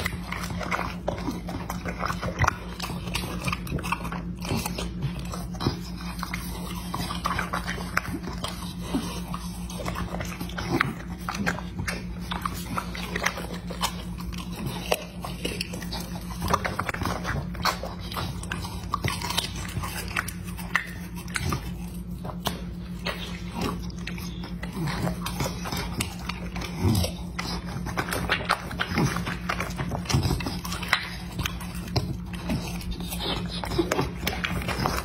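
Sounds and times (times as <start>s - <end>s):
dog chewing crunchy fruit: 0.0s - 35.0s
steady low hum: 0.0s - 35.0s.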